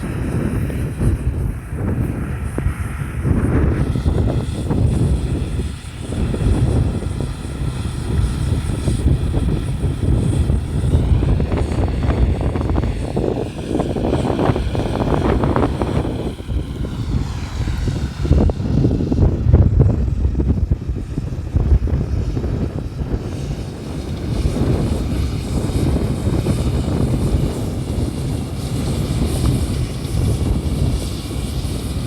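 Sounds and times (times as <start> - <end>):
combine harvester engine: 0.0 - 32.0.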